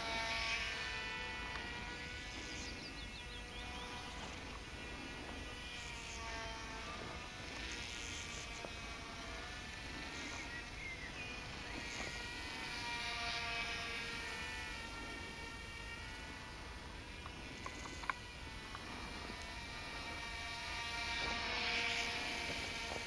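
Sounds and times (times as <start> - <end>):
toy plane propellers buzzing: 0.0 - 23.0.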